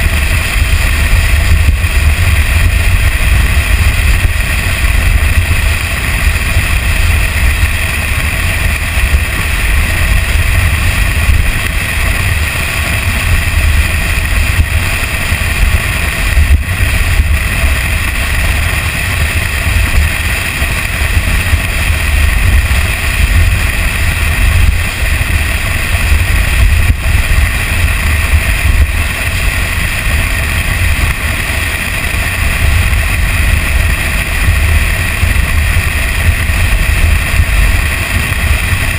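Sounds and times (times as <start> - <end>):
truck running noise: 0.0 - 38.9
wind buffeting camera: 0.0 - 38.9.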